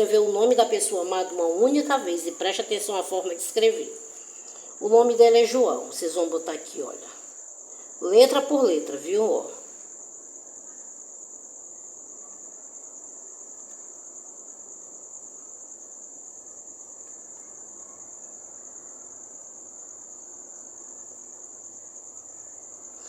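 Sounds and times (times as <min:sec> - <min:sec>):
cricket trilling: 0:00.0 - 0:23.0
faint background hiss: 0:00.0 - 0:23.0.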